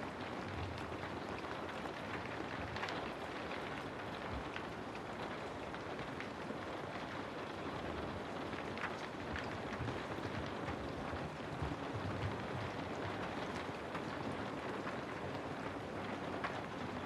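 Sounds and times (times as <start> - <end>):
rain patter on house: 0.0 - 17.0.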